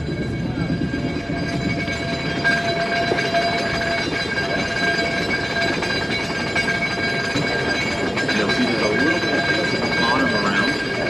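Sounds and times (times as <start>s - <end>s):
high ringing tones: 0.0s - 11.0s
steam train rumble and rattle: 0.0s - 11.0s.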